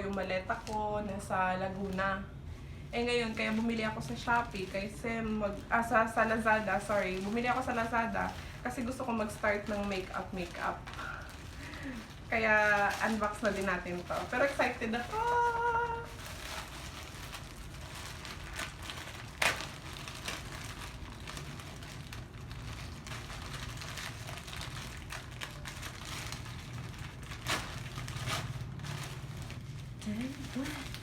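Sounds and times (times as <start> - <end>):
low steady hum: 0.0 - 31.0
plastic packaging rustling: 0.0 - 31.0.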